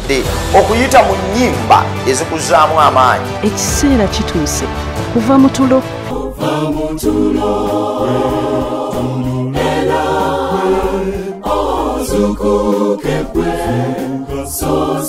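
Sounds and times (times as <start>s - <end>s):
choir singing in harmony: 0.3s - 15.0s.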